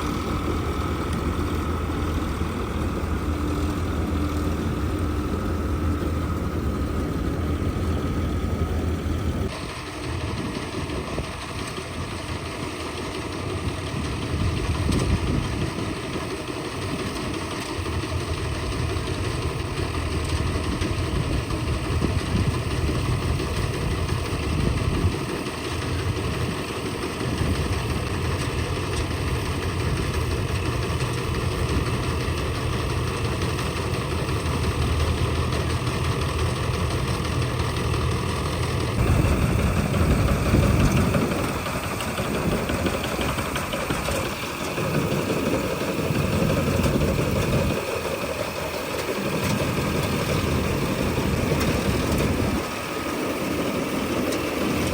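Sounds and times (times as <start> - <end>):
diesel engine running: 0.0 - 54.9
machinery noise: 0.0 - 54.9.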